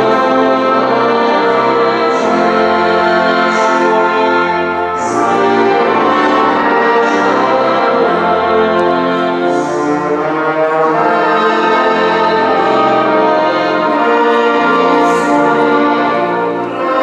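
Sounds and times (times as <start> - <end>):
brass band playing chords: 0.0 - 17.0.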